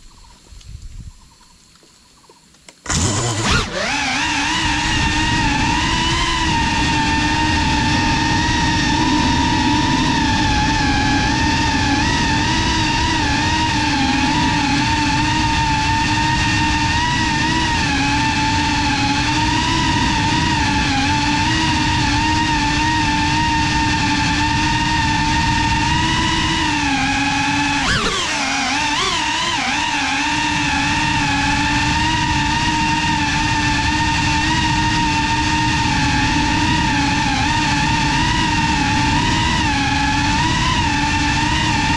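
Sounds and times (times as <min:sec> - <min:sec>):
drone motors whining: 0:02.7 - 0:41.9.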